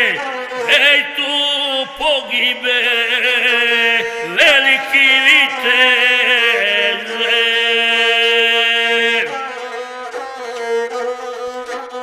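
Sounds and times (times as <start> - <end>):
man singing epic verse: 0.0 - 9.6
bowed single string instrument: 0.0 - 12.0.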